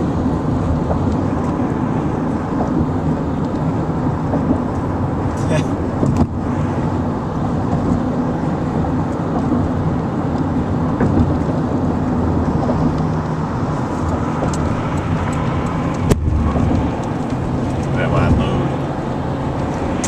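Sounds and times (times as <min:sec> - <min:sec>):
car driving at speed: 0:00.0 - 0:20.0.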